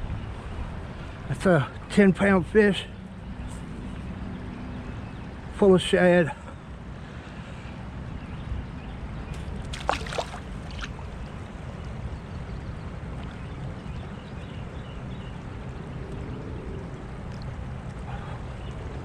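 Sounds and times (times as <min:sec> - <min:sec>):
river water: 0:00.1 - 0:19.0.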